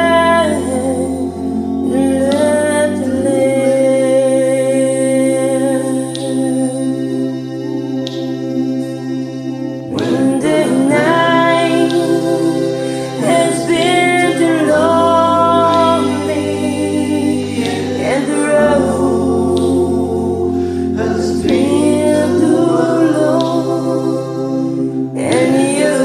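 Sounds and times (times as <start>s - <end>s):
a cappella harmony singing: 0.0s - 26.0s.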